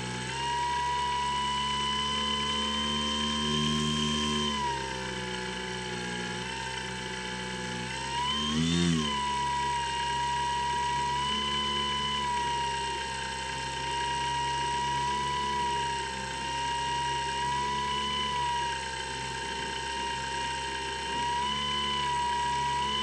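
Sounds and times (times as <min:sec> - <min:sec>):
model plane electric motor whining: 0:00.0 - 0:23.0.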